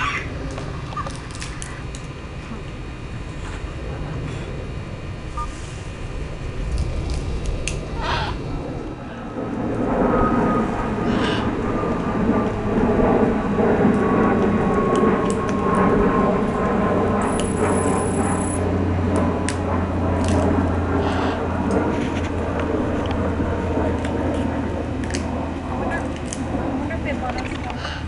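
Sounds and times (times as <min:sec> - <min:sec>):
steady mechanical rumble: 0:00.0 - 0:28.0.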